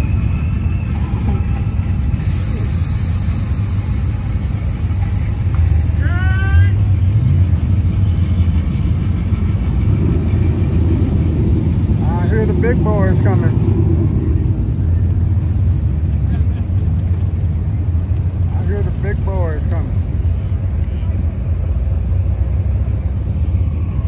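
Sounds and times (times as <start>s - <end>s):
car engines rumbling: 0.0s - 24.0s.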